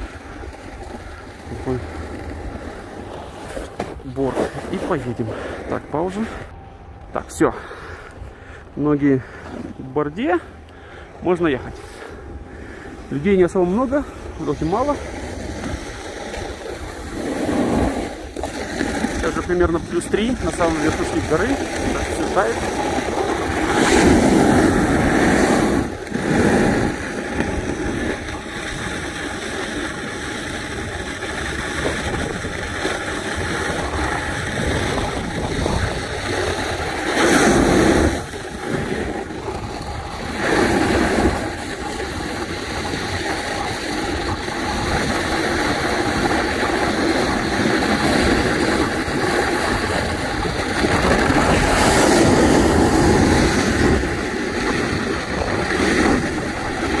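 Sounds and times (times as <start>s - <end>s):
snowboard scraping on snow: 0.0s - 6.6s, 12.9s - 57.0s.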